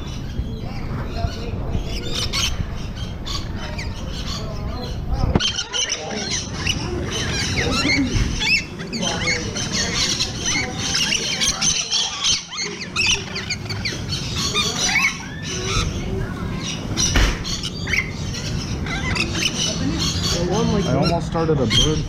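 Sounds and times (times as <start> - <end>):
lorikeets screeching and chattering: 0.0 - 22.0.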